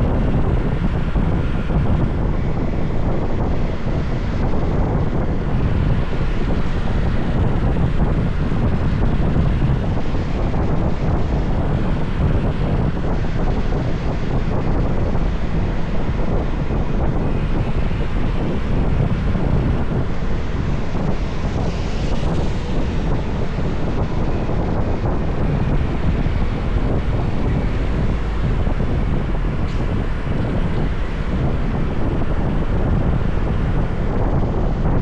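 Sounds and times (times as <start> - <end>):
motorbike road noise: 0.0 - 35.0
wind buffeting microphone: 0.0 - 35.0.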